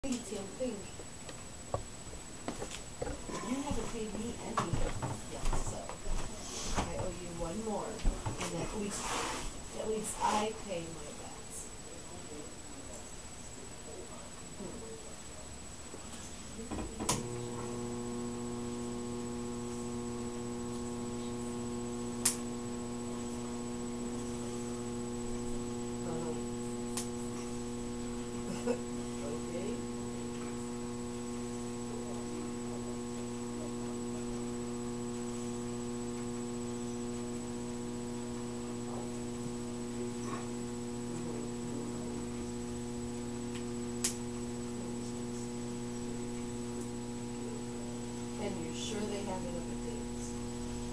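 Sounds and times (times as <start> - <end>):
steady electrical hum: 0.0 - 50.9.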